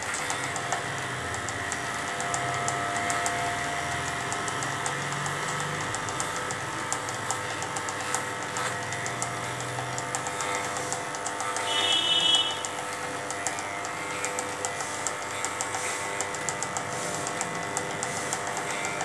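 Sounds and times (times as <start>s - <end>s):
electric hair clippers running: 0.0s - 19.0s.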